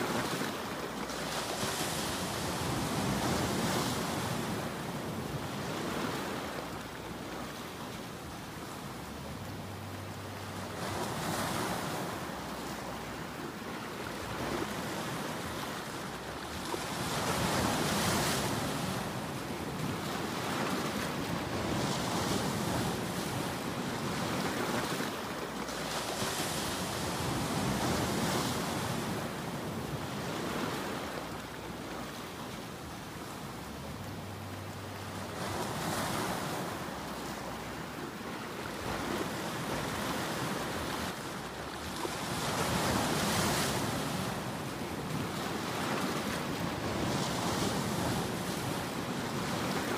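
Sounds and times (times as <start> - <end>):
waves breaking: 0.0 - 49.9.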